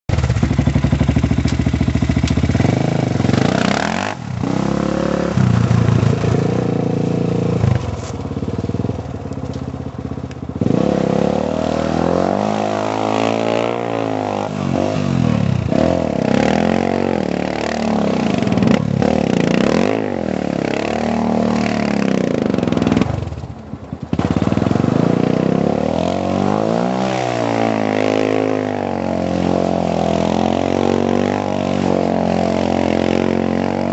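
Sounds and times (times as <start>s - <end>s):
quad engine revving: 0.1s - 33.9s.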